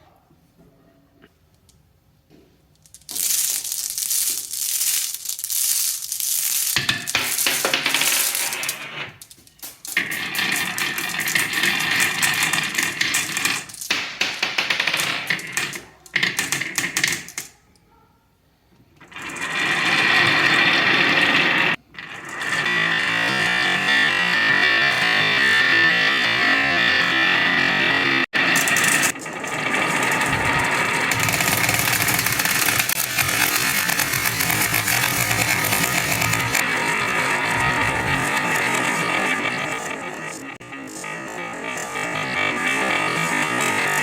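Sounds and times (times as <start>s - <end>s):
marbles rattling down wooden run: 2.8s - 17.5s, 19.0s - 44.0s.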